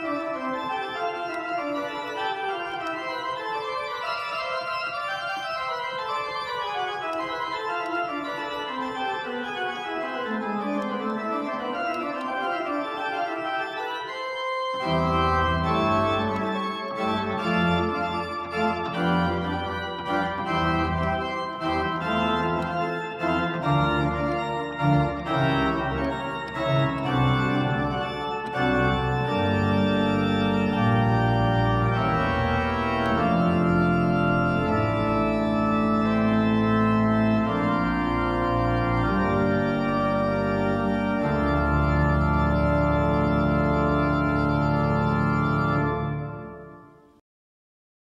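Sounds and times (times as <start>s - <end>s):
church organ playing: 0.0s - 47.2s.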